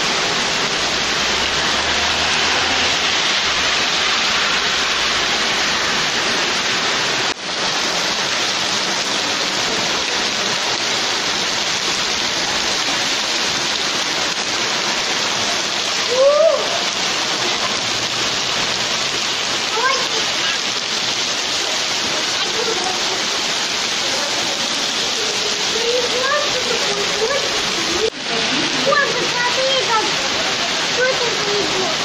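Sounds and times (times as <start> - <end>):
heavy rain on pavement: 0.0 - 32.0.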